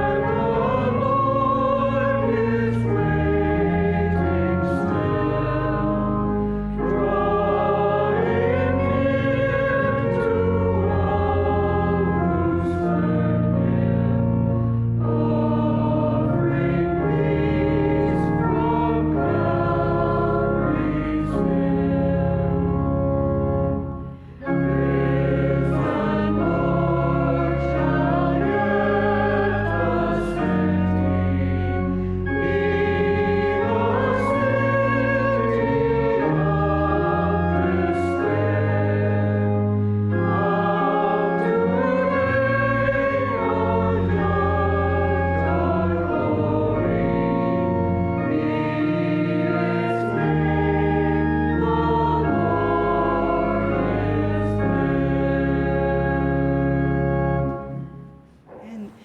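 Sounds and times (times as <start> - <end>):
choir singing: 0.0 - 59.0
instrumental accompaniment: 0.0 - 59.0.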